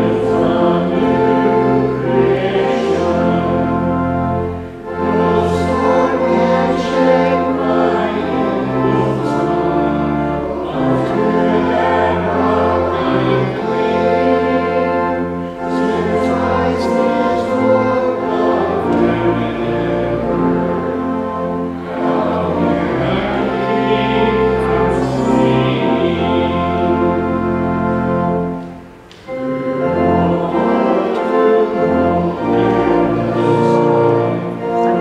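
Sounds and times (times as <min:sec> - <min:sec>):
church organ playing chords: 0:00.0 - 0:35.0.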